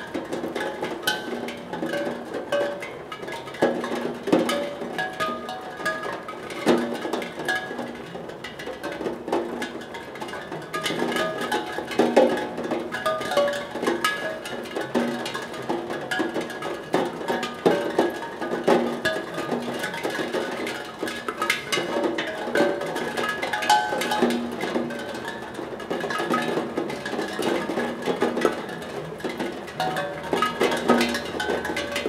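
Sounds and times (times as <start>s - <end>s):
raindrops ringing on tongue drum: 0.0s - 32.0s.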